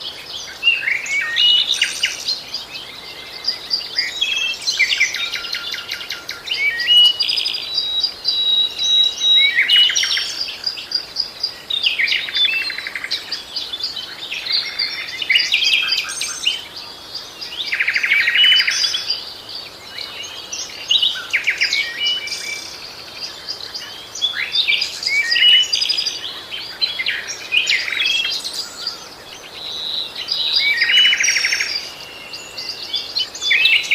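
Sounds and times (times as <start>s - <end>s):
songbirds singing: 0.0s - 33.9s.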